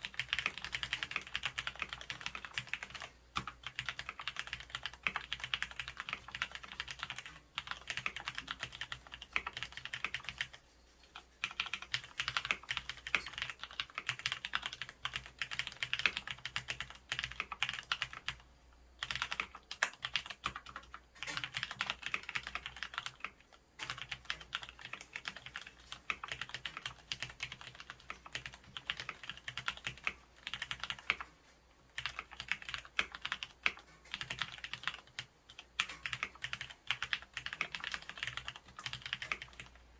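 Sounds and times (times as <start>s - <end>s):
mechanical keyboard typing: 0.0s - 10.6s, 11.4s - 18.4s, 19.0s - 39.8s.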